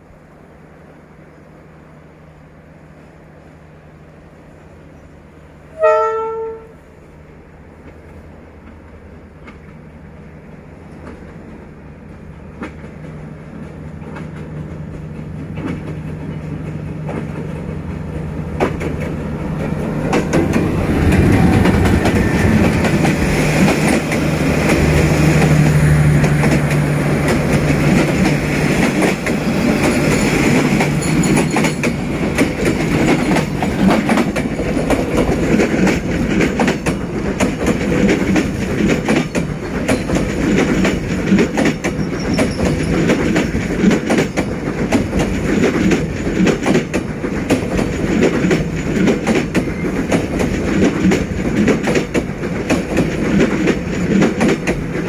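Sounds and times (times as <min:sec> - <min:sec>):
diesel locomotive engine: 0:00.0 - 0:55.0
wheels clacking over rail joints: 0:10.8 - 0:55.0.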